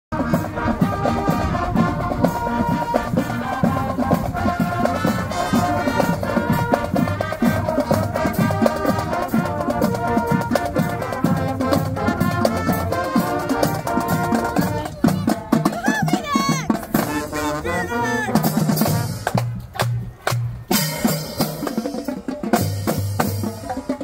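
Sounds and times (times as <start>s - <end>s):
brass band playing a tune: 0.1s - 24.0s
drumline beat: 0.1s - 24.0s.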